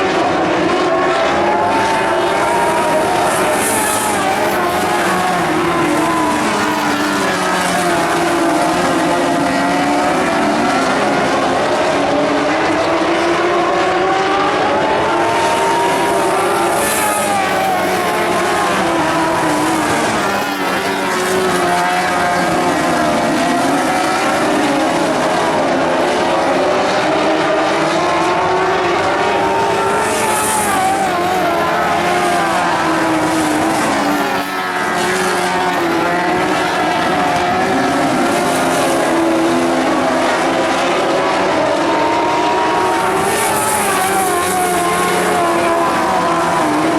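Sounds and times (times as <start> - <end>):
racing car engines: 0.0 - 46.9.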